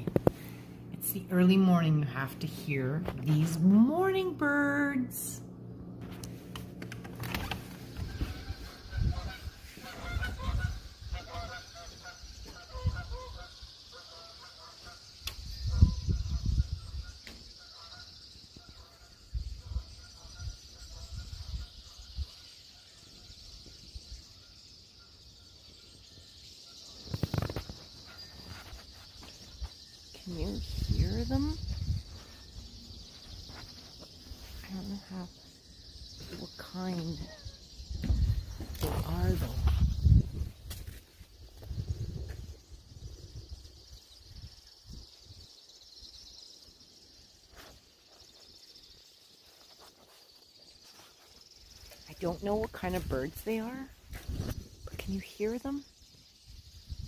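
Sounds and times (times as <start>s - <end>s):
flock of songbirds chirping: 0.0s - 5.4s, 6.0s - 57.0s.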